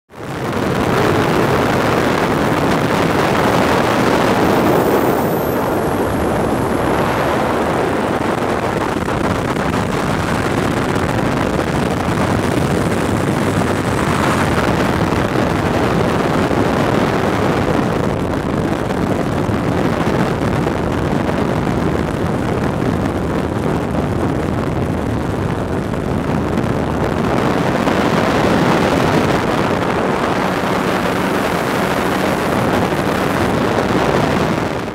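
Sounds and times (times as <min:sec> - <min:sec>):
ultralight engine running: 0:00.1 - 0:34.9
wind rushing over microphone: 0:00.1 - 0:34.9.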